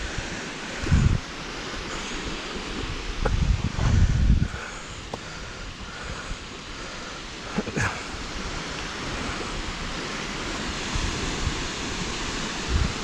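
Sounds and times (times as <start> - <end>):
sea waves washing on beach: 0.0 - 13.0
wind buffeting microphone: 0.0 - 13.0.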